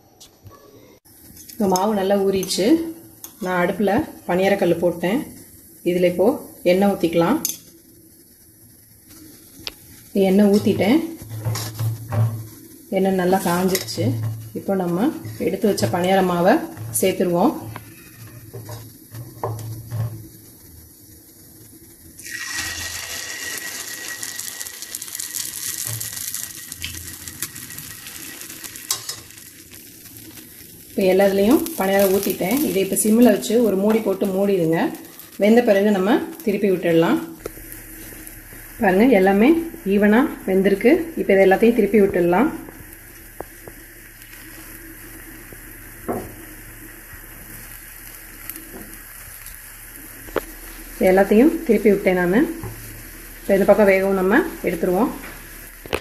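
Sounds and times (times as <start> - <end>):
batter sizzling in hot oil: 1.0 - 56.0.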